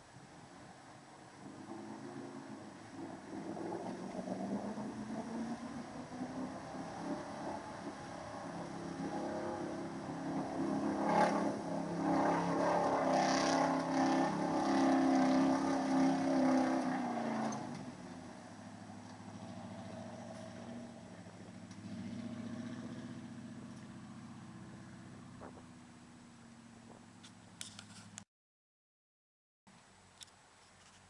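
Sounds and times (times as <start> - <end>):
truck engine revving under load: 1.4 - 27.2.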